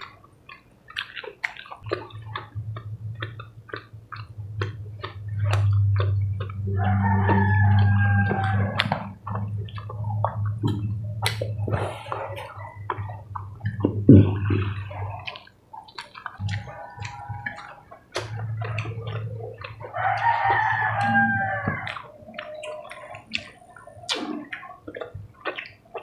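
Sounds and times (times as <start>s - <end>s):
chewing and lip smacking: 0.0s - 26.0s
steady low hum: 1.8s - 25.9s.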